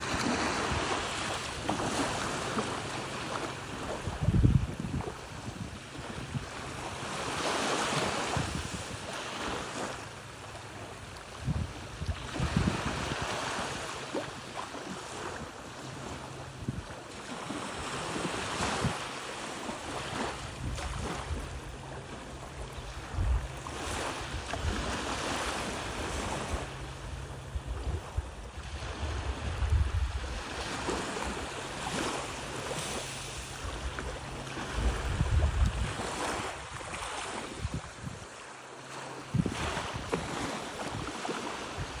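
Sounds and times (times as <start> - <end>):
wind on microphone: 0.0 - 10.0, 10.7 - 38.4, 39.2 - 42.0
surf washing onto beach: 0.0 - 42.0.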